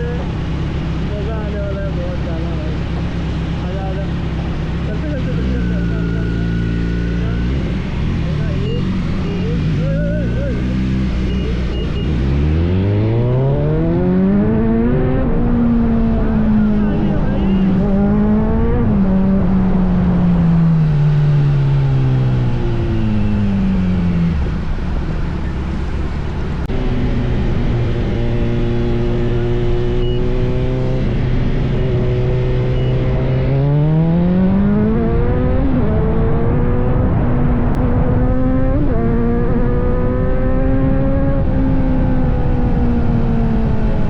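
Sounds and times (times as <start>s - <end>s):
motorcycle engine revving: 0.0s - 44.0s
road and wind noise: 0.0s - 44.0s.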